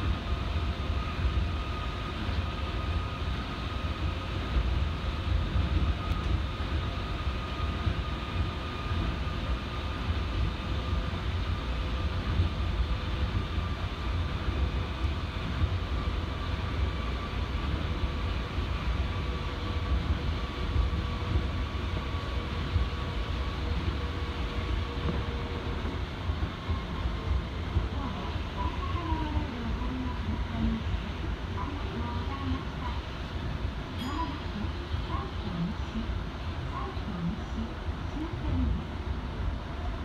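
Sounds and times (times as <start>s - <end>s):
faint steady whine: 0.0s - 40.0s
monorail tyres rumbling on track: 0.0s - 40.0s.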